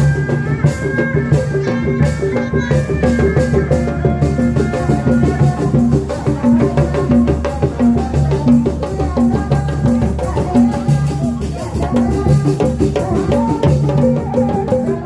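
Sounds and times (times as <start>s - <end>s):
drums beating steady rhythm: 0.0s - 15.0s
high melody line: 0.0s - 15.0s.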